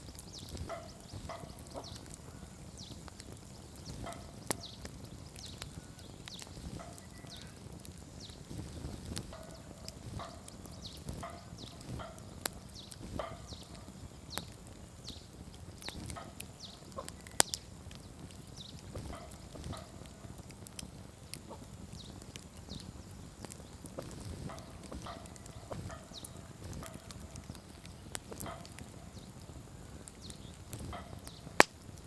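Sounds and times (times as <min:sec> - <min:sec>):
low rumble of flame: 0:00.0 - 0:32.0
wood crackling and popping: 0:00.0 - 0:32.0.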